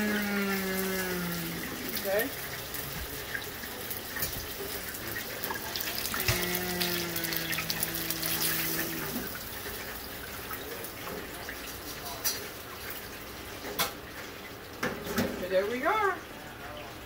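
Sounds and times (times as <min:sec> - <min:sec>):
oil sizzling in deep fryer: 0:00.0 - 0:17.0.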